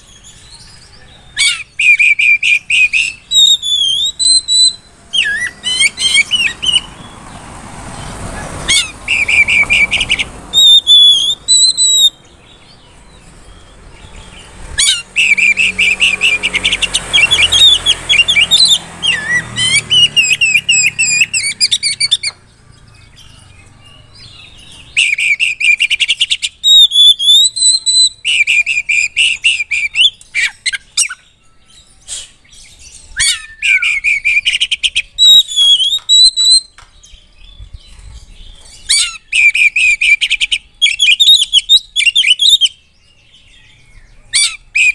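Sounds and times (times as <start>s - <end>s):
bird singing trills and whistles: 0.0s - 7.4s, 8.6s - 44.9s.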